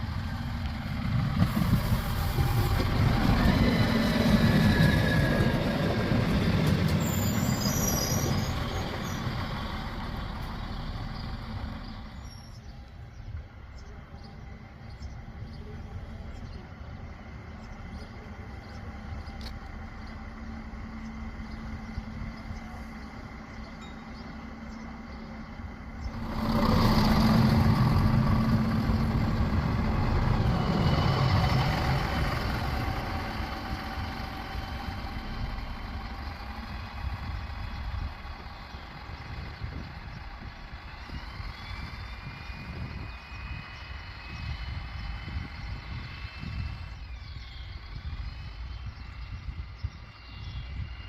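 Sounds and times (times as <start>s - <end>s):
diesel railcar engine: 0.0s - 51.0s.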